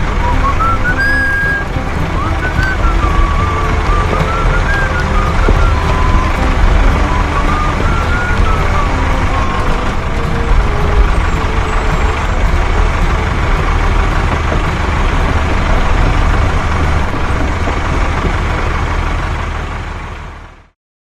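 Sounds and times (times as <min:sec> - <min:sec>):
truck engine rumbling: 0:00.0 - 0:20.7.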